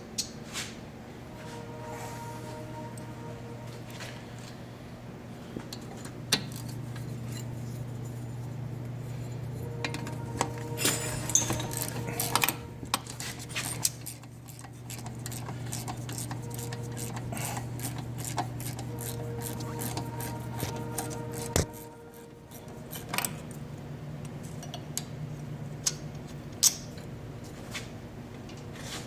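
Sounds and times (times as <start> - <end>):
low hum: 1.0 - 25.8.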